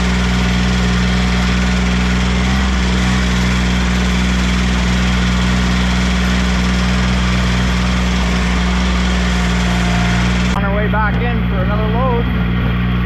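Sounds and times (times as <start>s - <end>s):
garden tractor engine running: 0.0s - 13.0s.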